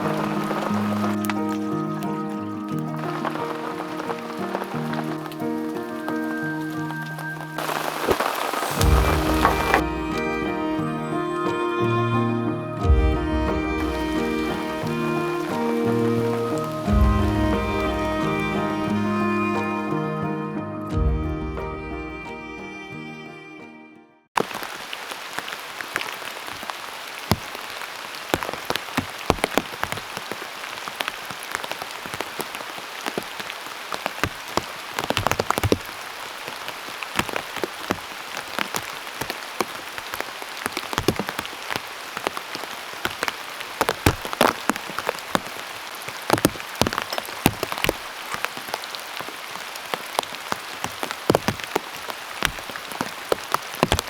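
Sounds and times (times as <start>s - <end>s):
raindrops tapping: 0.0s - 22.4s, 24.4s - 54.0s
heavy rain pouring: 0.0s - 22.9s, 24.4s - 54.0s.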